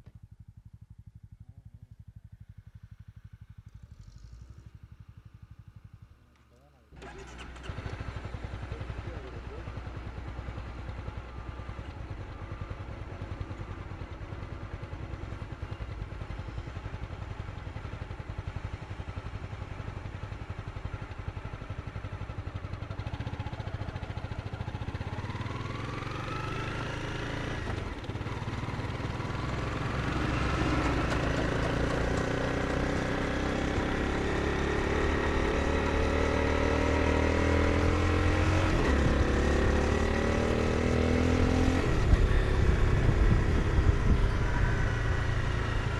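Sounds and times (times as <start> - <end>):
motorcycle engine revving: 6.9 - 45.9.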